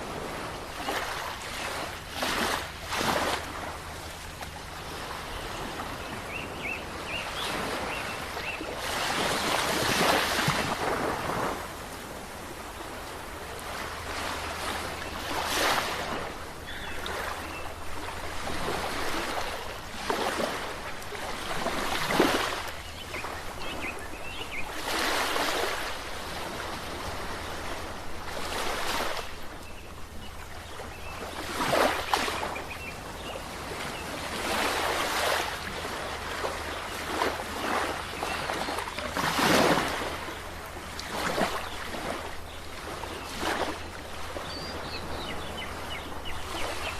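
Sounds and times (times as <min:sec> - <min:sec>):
low rumble of surf: 0:00.0 - 0:46.9
ocean waves breaking: 0:00.0 - 0:46.9.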